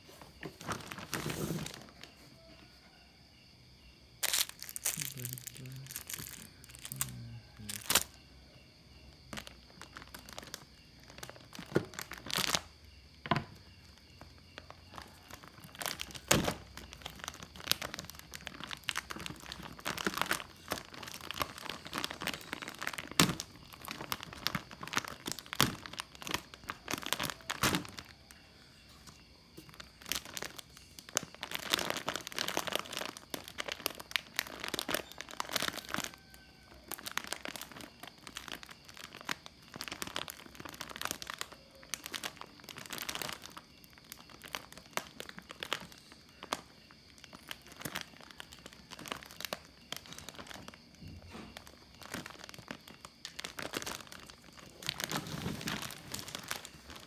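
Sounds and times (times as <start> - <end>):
plastic bag crinkling: 0.3 - 2.2, 4.2 - 8.2, 9.2 - 28.4, 29.1 - 57.0.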